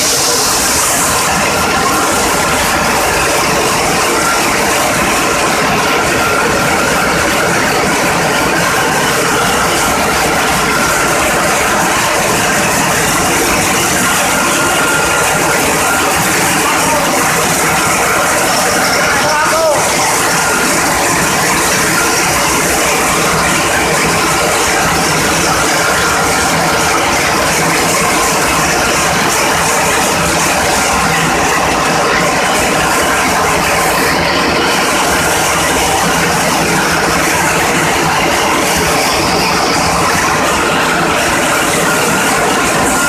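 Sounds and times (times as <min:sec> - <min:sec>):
ship diesel engine din: 0:00.0 - 0:43.0.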